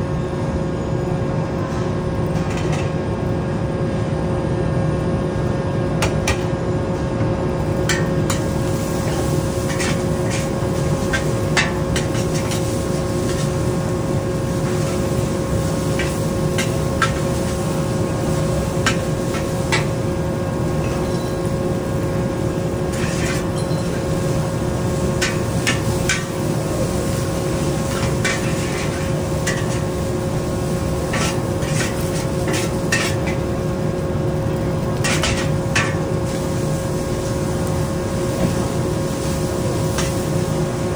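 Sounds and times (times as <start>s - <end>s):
kitchen hum: 5.4s - 40.9s.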